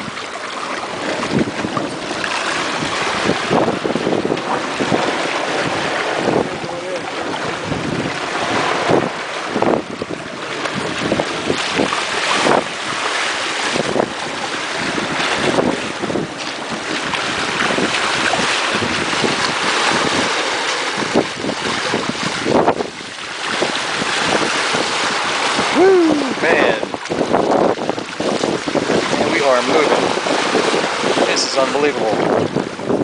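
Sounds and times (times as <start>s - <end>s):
water rushing along hull: 0.0s - 33.0s
wind buffeting microphone: 0.0s - 33.0s.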